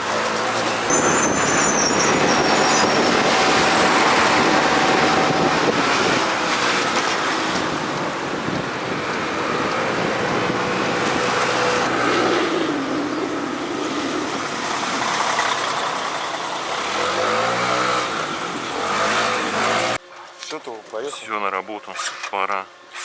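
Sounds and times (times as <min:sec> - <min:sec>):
motorbike engine running: 0:00.0 - 0:20.0
road rush: 0:00.0 - 0:20.0
wind rush: 0:00.9 - 0:19.6.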